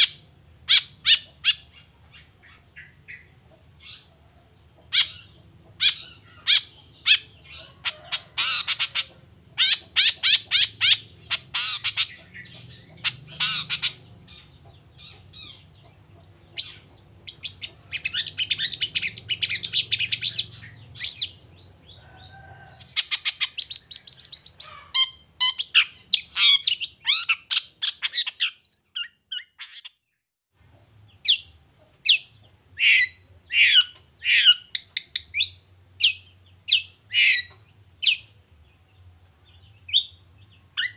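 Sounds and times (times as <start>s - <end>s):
bird chirping and squawking: 0.0s - 30.0s, 31.2s - 38.4s, 39.9s - 40.9s.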